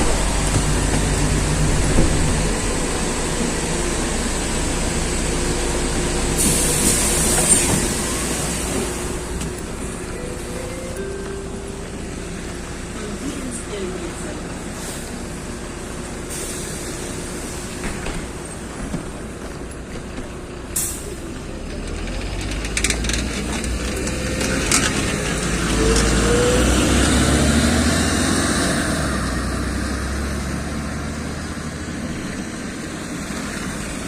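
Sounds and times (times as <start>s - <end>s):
bus engine rumble: 0.0s - 34.0s.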